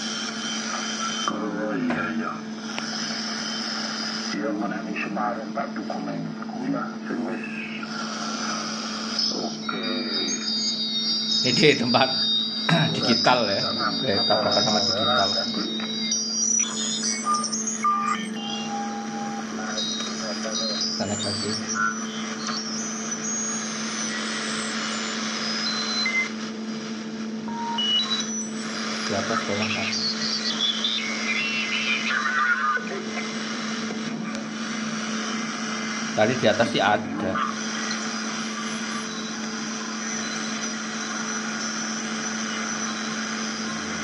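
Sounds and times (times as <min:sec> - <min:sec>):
radio band noise hiss: 0:00.0 - 0:44.0.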